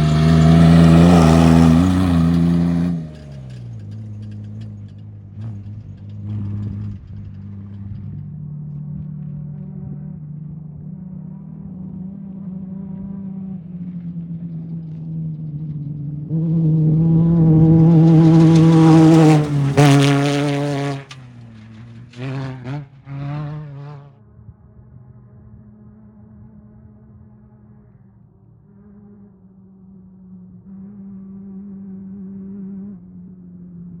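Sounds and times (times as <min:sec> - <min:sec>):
engine revving: 0:00.0 - 0:24.2, 0:28.6 - 0:34.0
off-road vehicle engine passing: 0:00.0 - 0:34.0.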